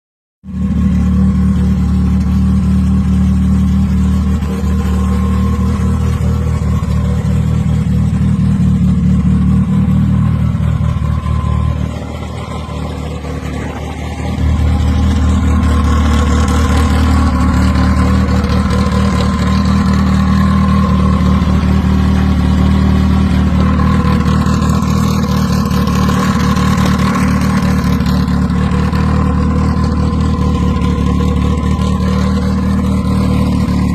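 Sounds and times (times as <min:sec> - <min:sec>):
car engine with deep exhaust: 0:00.4 - 0:33.9.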